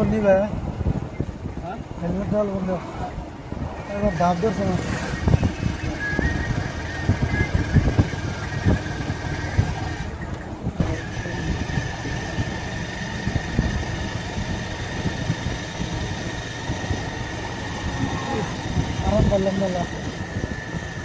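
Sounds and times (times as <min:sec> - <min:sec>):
road and wind rumble: 0:00.0 - 0:21.0
thin steady whine: 0:03.0 - 0:21.0
motorcycle engine running: 0:03.9 - 0:21.0.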